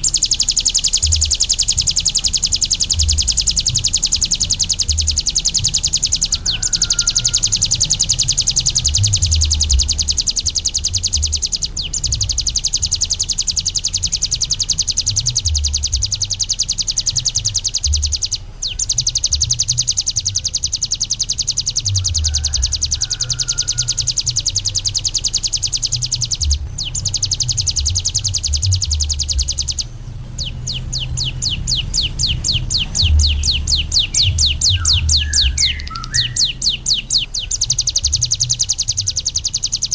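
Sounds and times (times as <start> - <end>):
bird singing fast trill: 0.0 - 39.9.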